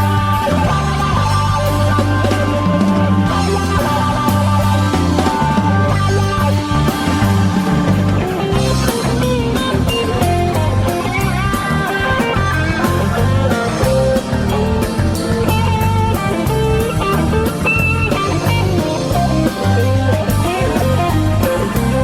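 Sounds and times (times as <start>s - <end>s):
instrumental rock music: 0.0s - 22.0s.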